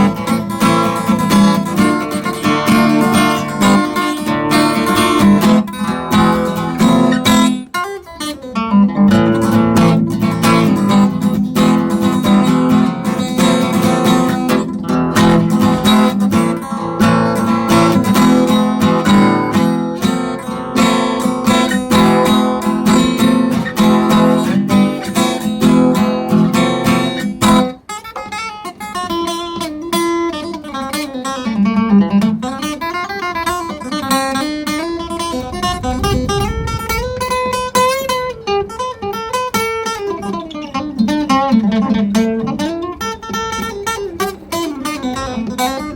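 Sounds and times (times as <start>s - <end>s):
acoustic guitar playing: 0.0s - 45.9s.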